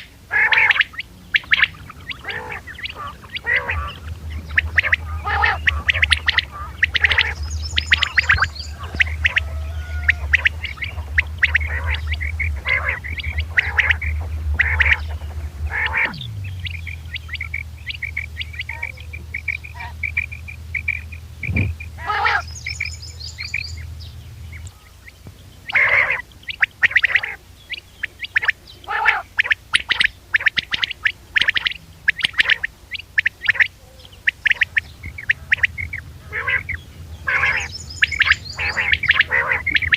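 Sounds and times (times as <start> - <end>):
low steady hum: 0.0 - 39.9
quail calling: 0.0 - 39.9.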